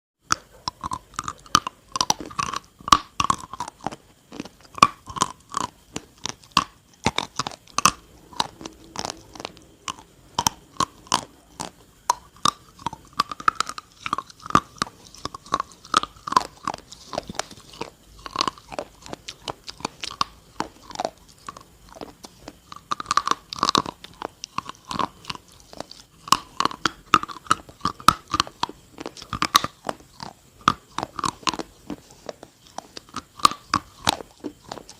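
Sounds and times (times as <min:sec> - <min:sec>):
person chewing crunchy food: 0:00.2 - 0:34.9.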